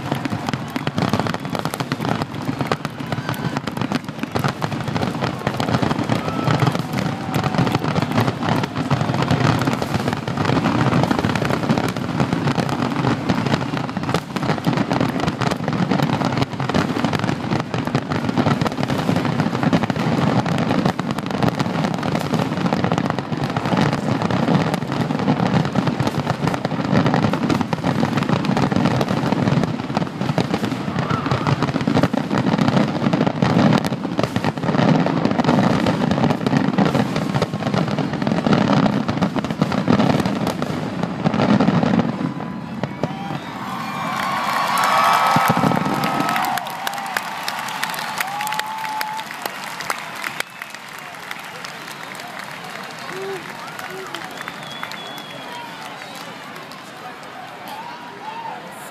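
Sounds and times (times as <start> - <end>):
fireworks bursting: 0.0 - 58.9.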